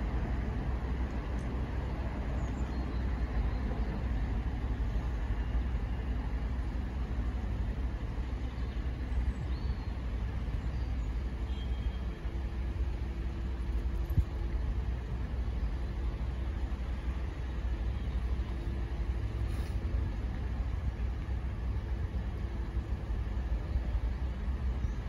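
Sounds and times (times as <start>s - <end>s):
low rumble of railway and road: 0.0s - 25.0s.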